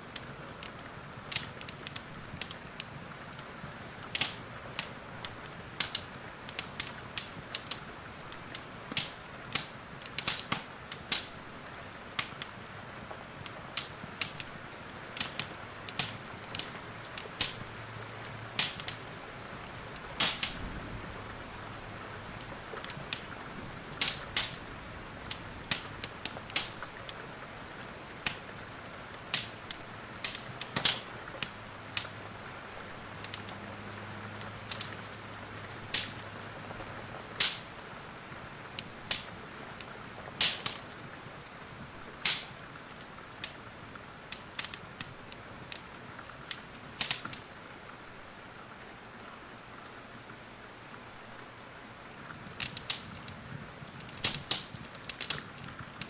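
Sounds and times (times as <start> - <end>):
rain hissing: 0.0 - 56.0
wood fire crackling: 0.0 - 56.0.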